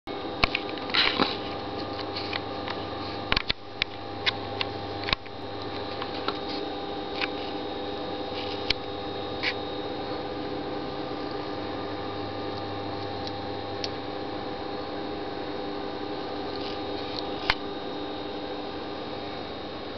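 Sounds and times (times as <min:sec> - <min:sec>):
steady hum: 0:00.1 - 0:19.9.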